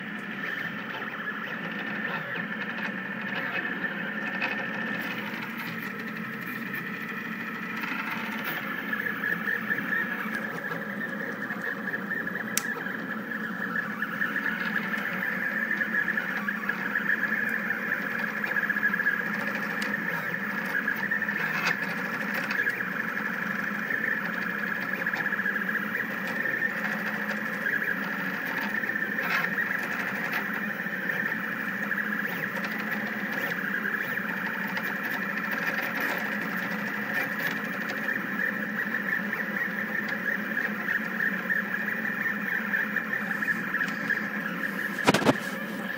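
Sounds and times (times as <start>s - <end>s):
stepper motors whirring: 0.0s - 45.9s.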